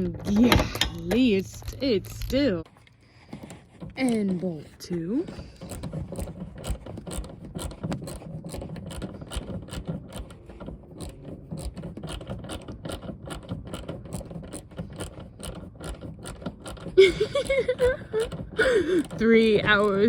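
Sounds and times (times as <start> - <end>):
socket ratchet clicking: 3.5 - 20.0.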